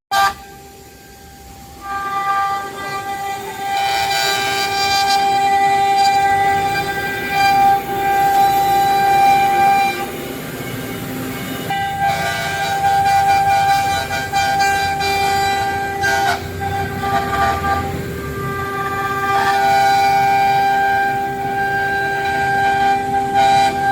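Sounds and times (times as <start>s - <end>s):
cutter machining workpiece: 0.1s - 23.9s
router spindle whine: 0.2s - 23.9s.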